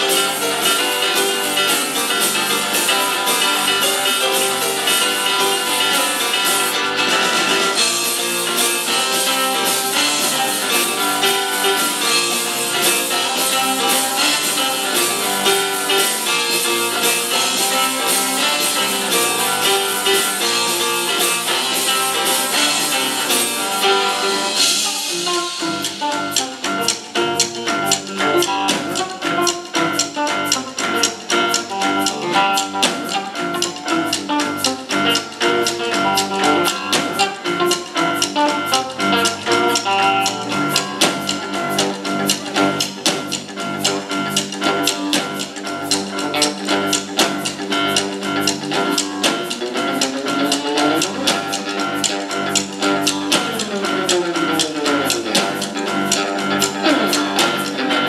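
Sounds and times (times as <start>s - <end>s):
drum kit steady beat: 0.0s - 58.0s
electric guitar: 0.0s - 58.0s.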